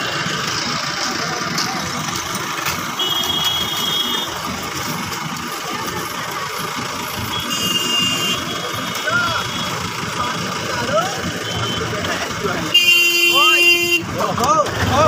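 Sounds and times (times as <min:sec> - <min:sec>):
vehicle engines idling: 0:00.0 - 0:15.0.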